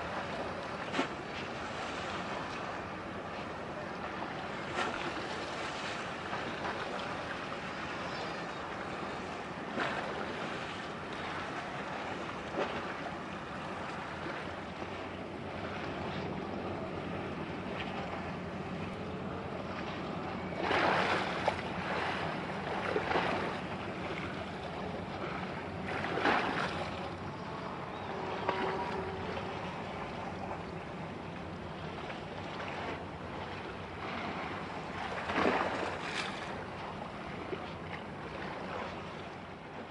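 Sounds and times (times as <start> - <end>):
water lapping: 0.0 - 39.9.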